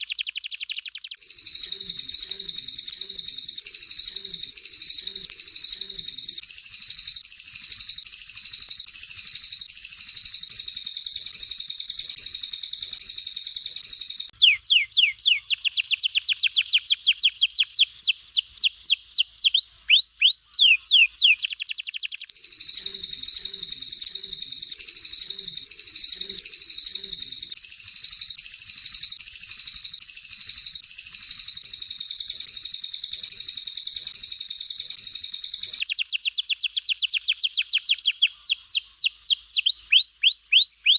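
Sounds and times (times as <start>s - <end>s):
high continuous bird trill: 0.0s - 40.9s
sharp downward-sweeping bird whistles: 0.0s - 40.9s.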